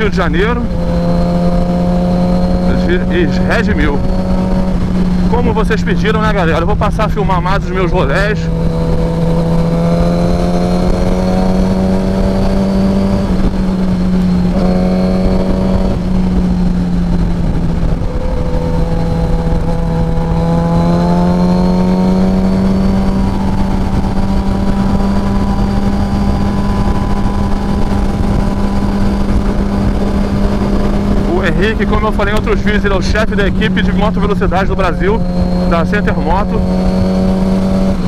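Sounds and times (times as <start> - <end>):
motorcycle engine droning: 0.0 - 38.0
wind rush: 0.0 - 38.0.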